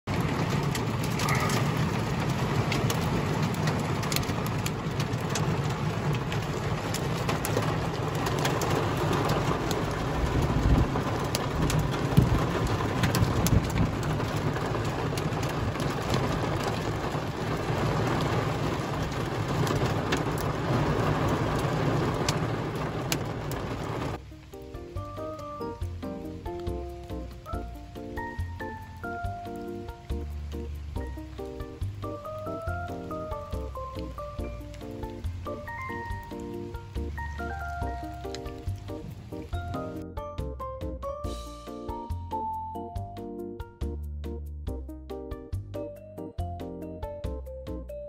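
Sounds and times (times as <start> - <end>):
heavy rain on window glass: 0.1 - 40.0
sharp ticks of raindrops: 0.1 - 47.8.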